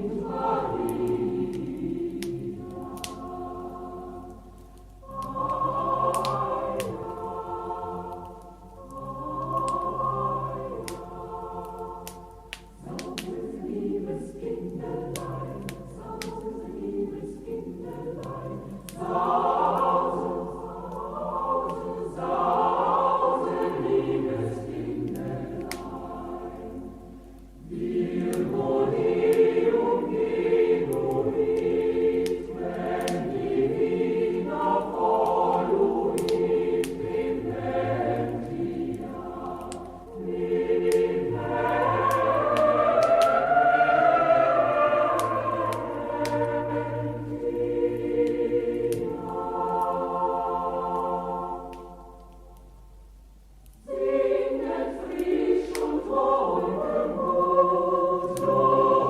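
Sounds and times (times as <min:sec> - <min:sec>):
choir singing: 0:00.0 - 0:52.8, 0:53.7 - 0:59.0
wood fire crackling: 0:00.0 - 0:59.0.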